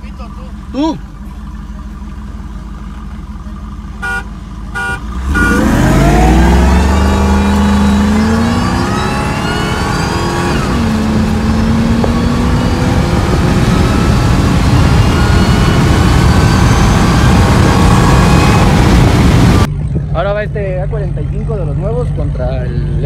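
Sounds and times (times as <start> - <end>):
engine under hard acceleration: 0.0 - 23.0
low road rumble: 0.0 - 23.0.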